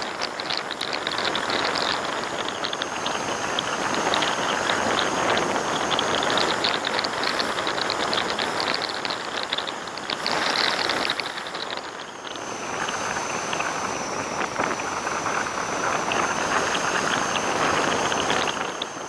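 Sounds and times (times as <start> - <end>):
rushing wind and road noise: 0.0 - 19.0
thin high whine: 0.0 - 19.0.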